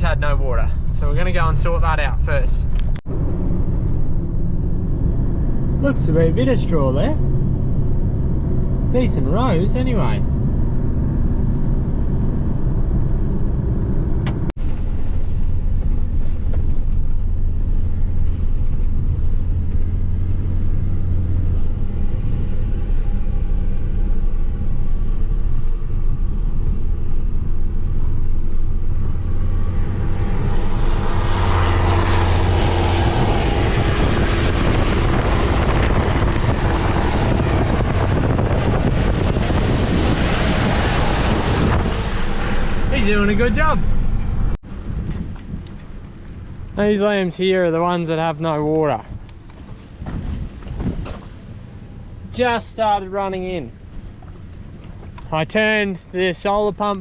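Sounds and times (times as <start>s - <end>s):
road noise: 0.0s - 57.0s
vehicle engine drone: 0.0s - 57.0s.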